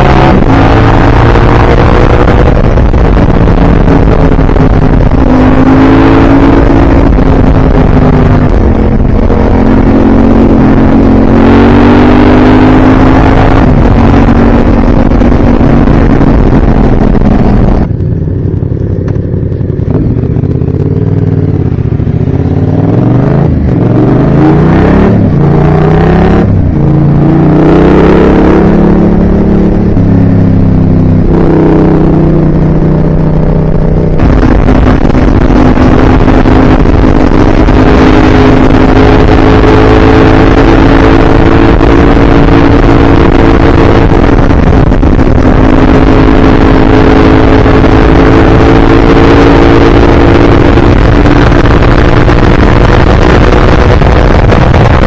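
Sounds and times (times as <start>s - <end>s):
loud rushing noise: 0.0s - 18.2s, 19.8s - 55.0s
vehicle engine running: 0.0s - 55.0s.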